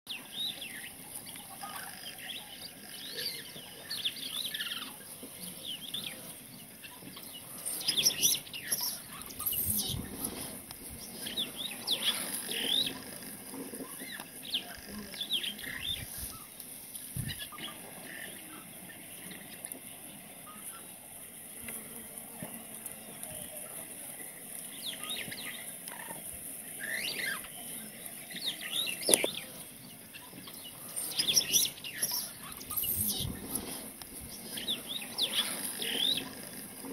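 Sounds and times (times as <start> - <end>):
birds chirping and calling: 0.1 - 19.7, 24.6 - 36.9
steady high hiss: 0.1 - 36.9.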